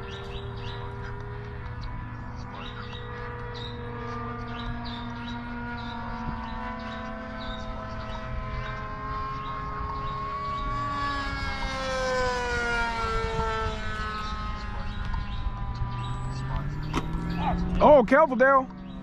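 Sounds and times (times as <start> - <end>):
model jet flying past: 0.0 - 18.5.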